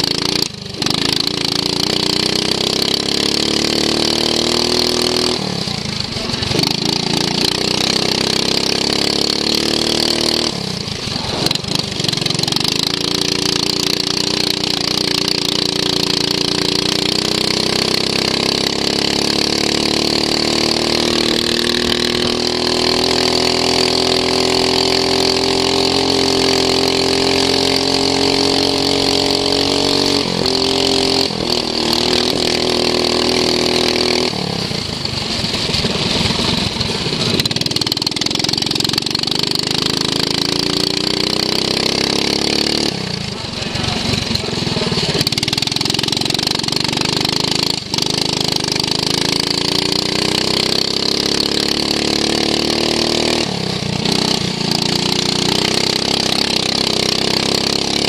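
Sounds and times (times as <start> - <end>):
lawn mower engine running hard: 0.0 - 58.0.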